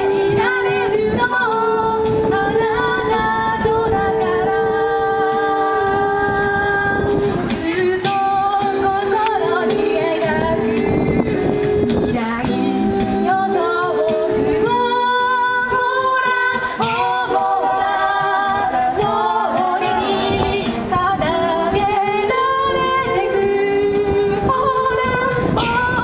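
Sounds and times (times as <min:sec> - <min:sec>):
a cappella group singing: 0:00.0 - 0:26.0.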